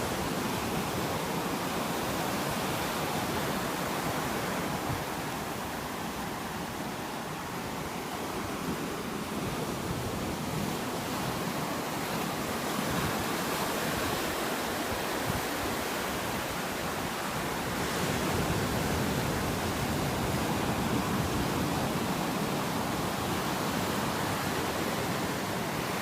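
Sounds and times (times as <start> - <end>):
ocean surf breaking on beach: 0.0 - 26.0
wind noise on microphone: 0.0 - 26.0.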